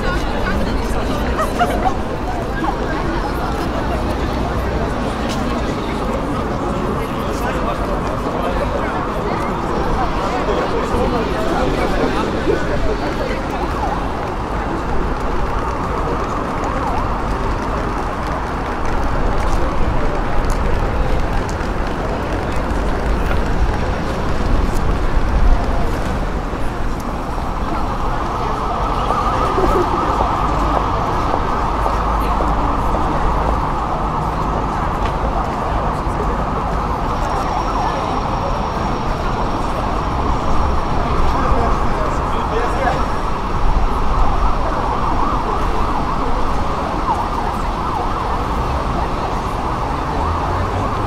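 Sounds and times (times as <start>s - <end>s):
crowd of people talking: 0.0s - 51.0s
murmur of indistinct voices: 0.0s - 51.0s
road traffic: 0.0s - 51.0s.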